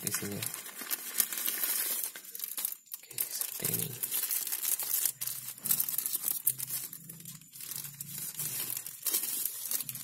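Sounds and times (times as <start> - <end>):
wrapping rustling and crackling: 0.0 - 10.0.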